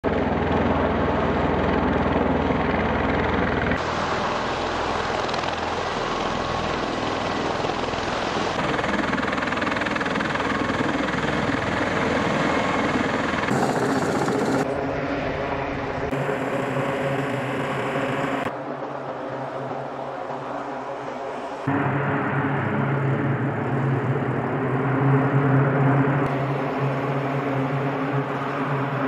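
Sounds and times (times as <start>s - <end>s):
aircraft engines and rotors droning: 0.0s - 29.0s.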